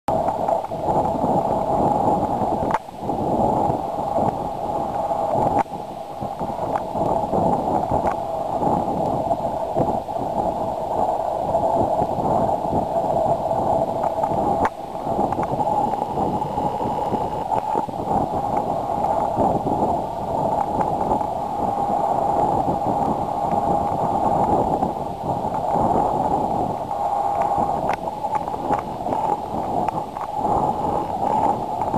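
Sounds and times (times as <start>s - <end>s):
wind buffeting microphone: 0.1s - 31.9s.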